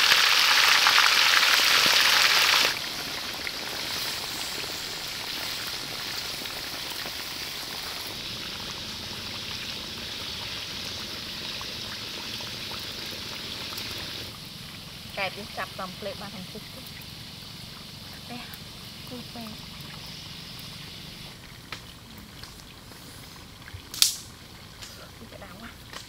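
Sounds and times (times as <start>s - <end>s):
frying sizzle with crackling: 0.0s - 26.0s.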